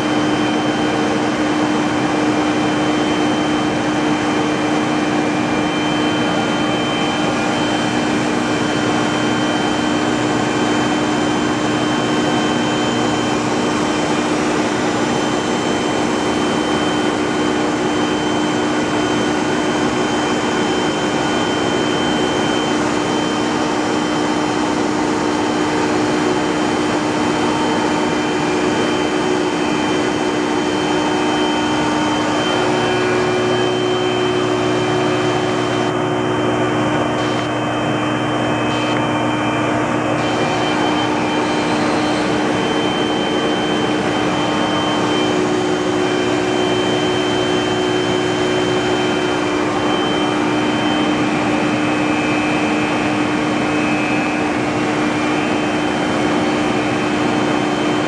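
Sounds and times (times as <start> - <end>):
industrial machinery humming: 0.0 - 58.0
thin high machine whine: 0.0 - 58.0.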